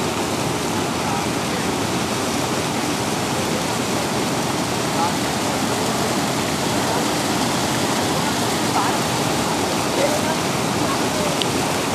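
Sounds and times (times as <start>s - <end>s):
water rushing over a weir: 0.0s - 11.9s.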